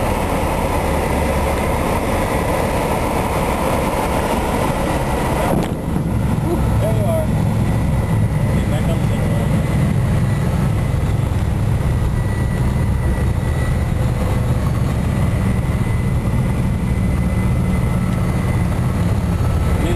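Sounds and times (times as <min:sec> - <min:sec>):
propeller plane engine rumbling: 0:00.0 - 0:19.9.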